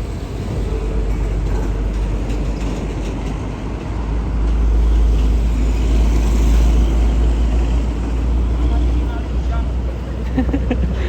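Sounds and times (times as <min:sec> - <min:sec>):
bus passing with low rumble: 0:00.0 - 0:11.0.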